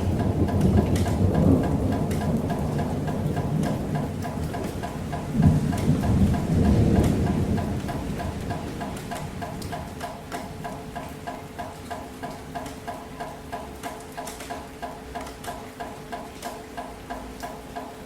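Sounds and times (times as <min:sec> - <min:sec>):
light rain hiss: 0:00.0 - 0:18.0
rhythmic pulsing: 0:00.0 - 0:18.0.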